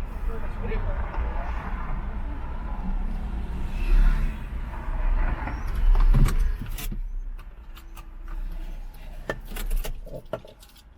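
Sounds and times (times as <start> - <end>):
car rumbling on road: 0.0 - 10.9.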